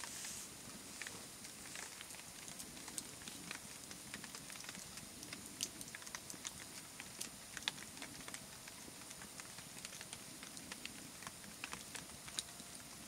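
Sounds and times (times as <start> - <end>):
embers crackling and popping: 0.0 - 13.0
soft fire hiss: 0.0 - 13.0.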